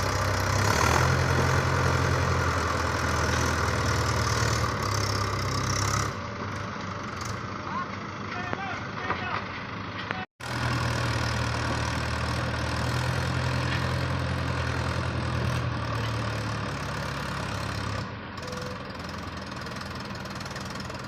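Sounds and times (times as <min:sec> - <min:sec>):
heavy vehicle engine idling: 0:00.0 - 0:21.0.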